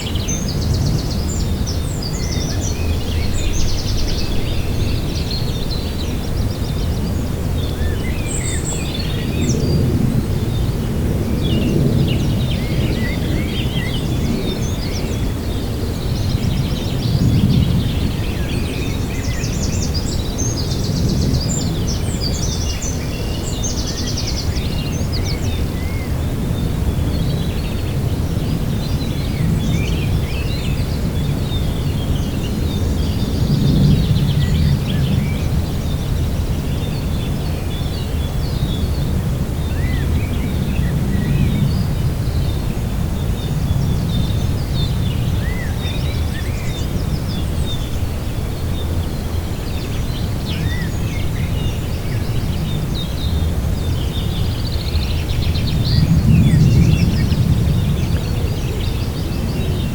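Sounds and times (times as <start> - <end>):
small birds chirping: 0.0 - 59.9
wind rumbling in gusts: 0.0 - 59.9.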